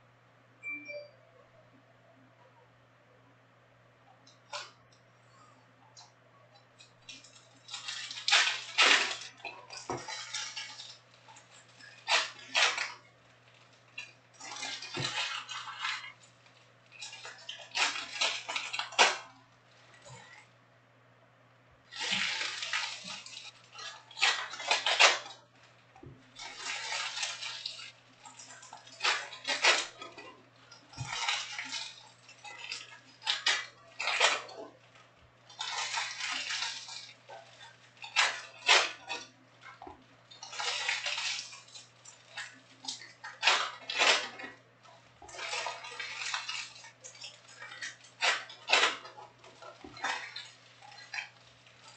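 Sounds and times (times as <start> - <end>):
foil packs tearing: 7.0 - 20.4, 21.9 - 51.9.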